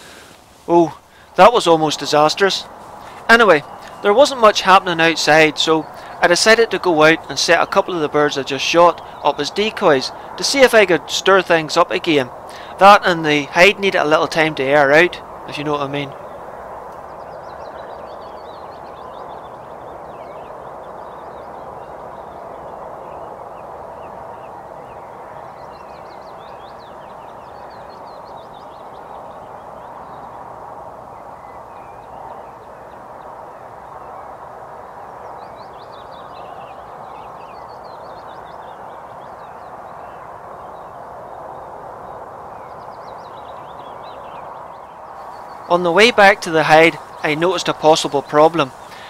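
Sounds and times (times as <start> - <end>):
small songbirds chirping: 0.0 - 49.0
steady background hiss: 0.0 - 49.0.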